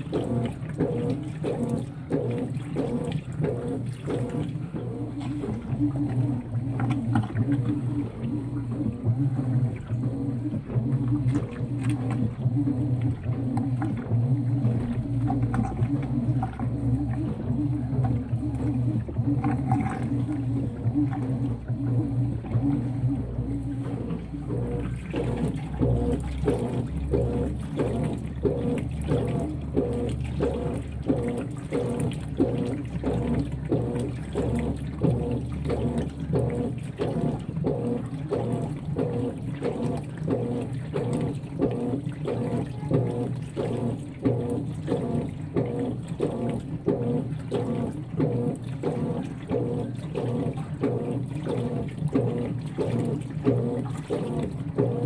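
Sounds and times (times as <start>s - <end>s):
agitator swishing wet towels: 0.0s - 55.0s
washing machine motor hum: 0.0s - 55.0s
water sloshing: 0.0s - 55.0s.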